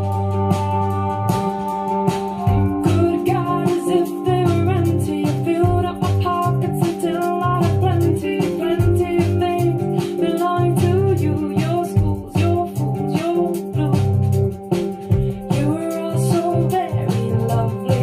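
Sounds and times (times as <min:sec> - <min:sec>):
bass line: 0:00.0 - 0:18.0
guitar: 0:00.0 - 0:18.0
person singing: 0:02.4 - 0:18.0.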